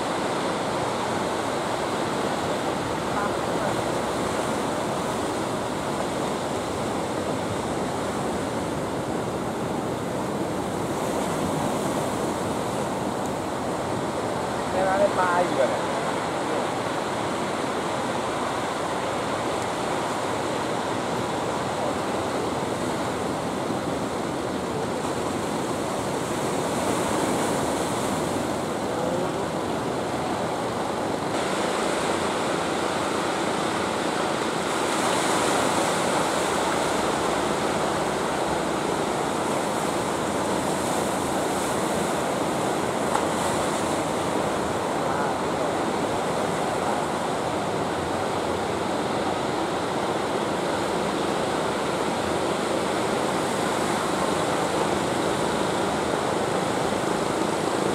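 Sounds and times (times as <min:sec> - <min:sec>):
heavy surf breaking on beach: 0:00.0 - 0:57.9.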